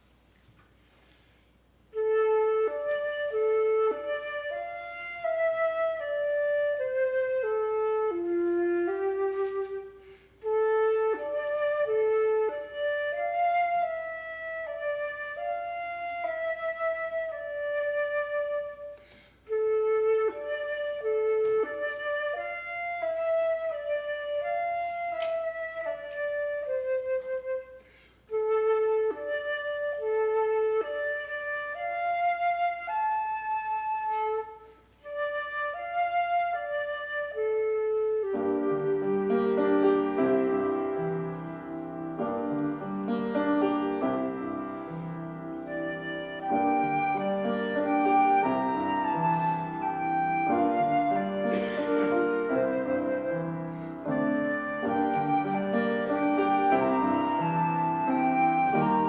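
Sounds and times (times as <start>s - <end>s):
flute playing slow melody: 1.8s - 59.0s.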